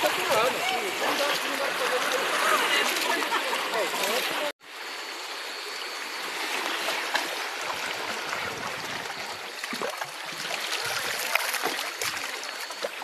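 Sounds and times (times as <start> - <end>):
seawater washing among boulders: 0.0 - 4.5, 6.4 - 13.0.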